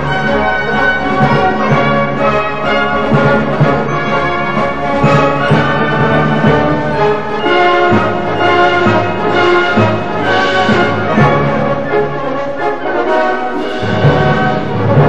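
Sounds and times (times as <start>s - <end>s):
held brass chords: 0.0s - 15.0s
orchestral music: 0.0s - 15.0s.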